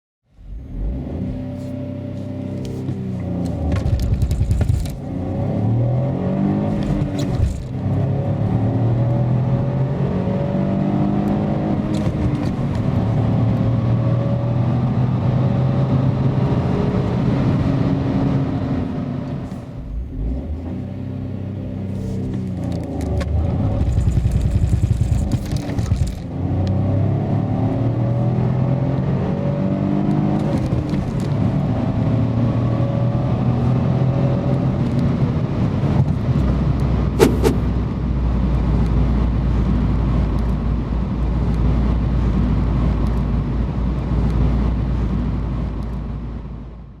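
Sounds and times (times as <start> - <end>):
car running with low rumble: 0.3 - 47.0
car engine accelerating: 0.4 - 46.7.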